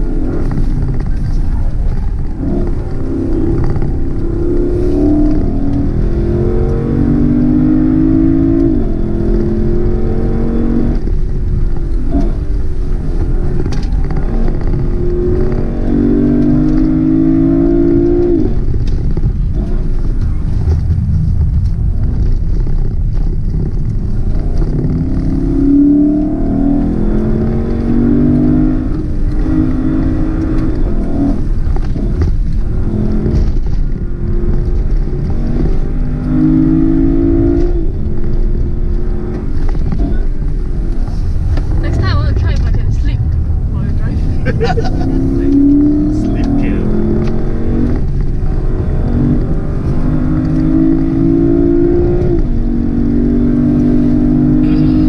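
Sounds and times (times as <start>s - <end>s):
car engine accelerating: 0.0s - 55.0s
road and tyre noise: 0.0s - 55.0s.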